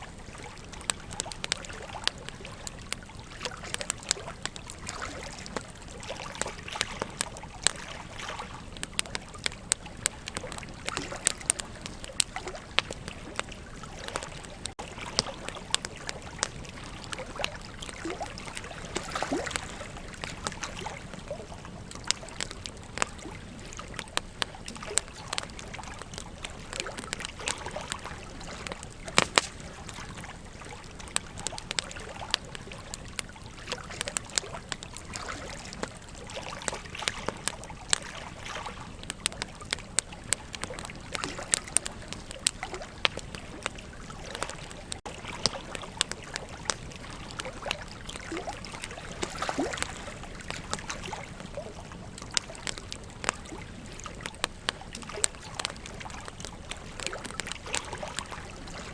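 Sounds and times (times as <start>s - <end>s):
campfire crackling: 0.0s - 58.9s
flowing river water: 0.0s - 58.9s.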